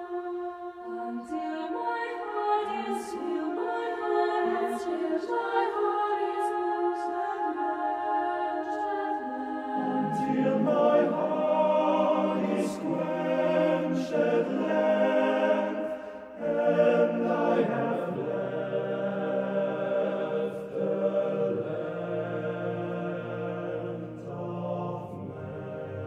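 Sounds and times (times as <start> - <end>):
mixed choir singing a cappella: 0.0 - 26.0.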